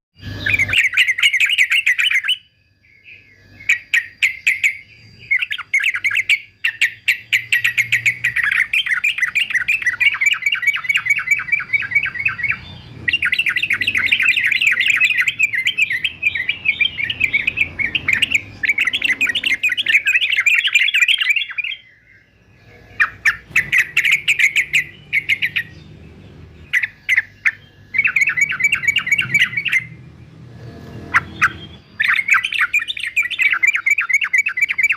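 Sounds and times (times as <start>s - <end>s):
bird singing chattering notes: 0.2s - 34.9s.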